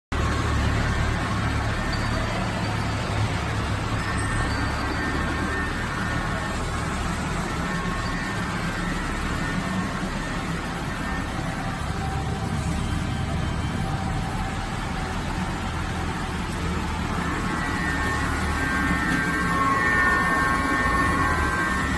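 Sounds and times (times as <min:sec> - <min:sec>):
machinery drone: 0:00.1 - 0:21.9.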